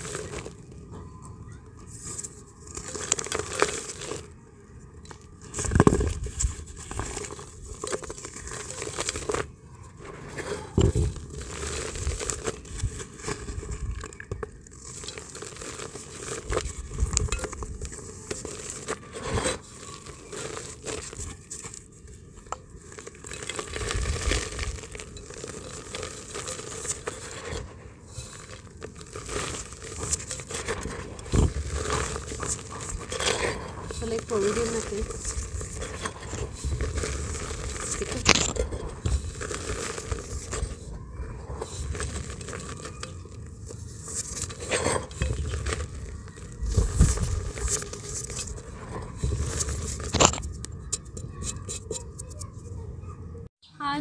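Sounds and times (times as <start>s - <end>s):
dirt chunks crunching by hand: 0.0s - 0.9s, 1.8s - 4.4s, 5.0s - 51.6s.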